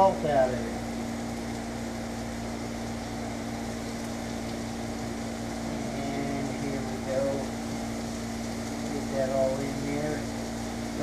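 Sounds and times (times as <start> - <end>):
electric fan hum: 0.0 - 11.0
food sizzling in a skillet: 0.0 - 11.0.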